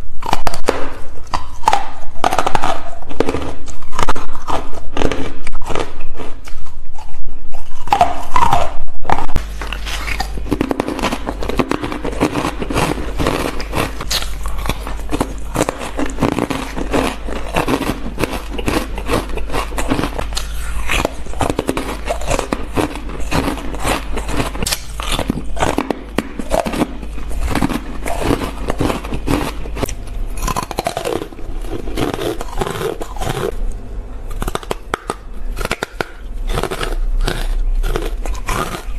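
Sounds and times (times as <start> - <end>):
ice being chewed crunching: 0.0 - 33.7, 34.3 - 38.9.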